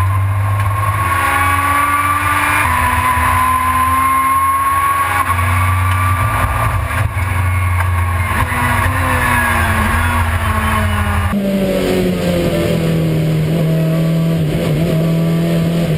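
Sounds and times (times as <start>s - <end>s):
lower car engine note: 0.0s - 15.9s
race car engine accelerating: 0.0s - 15.9s.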